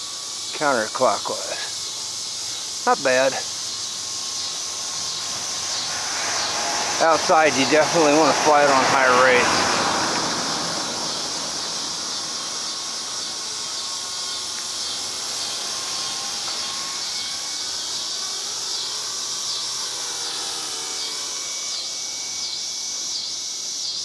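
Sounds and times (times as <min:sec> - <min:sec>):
insects chirping: 0:00.0 - 0:24.0
rc helicopter motor whine: 0:00.0 - 0:24.0.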